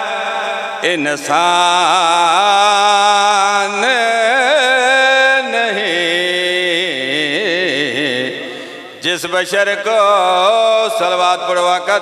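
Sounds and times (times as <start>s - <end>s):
man chanting through microphone: 0.0s - 12.0s.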